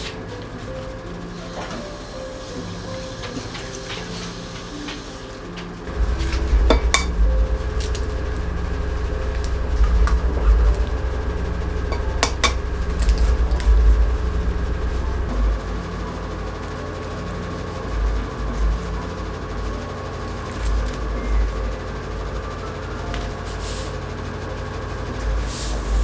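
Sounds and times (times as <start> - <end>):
steady low rumble: 4.7 - 26.0.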